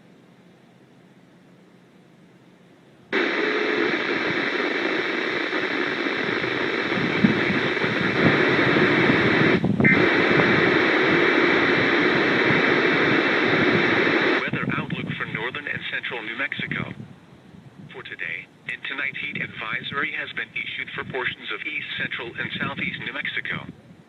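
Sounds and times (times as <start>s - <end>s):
radio speaker static hiss: 3.1s - 17.1s, 17.8s - 24.0s.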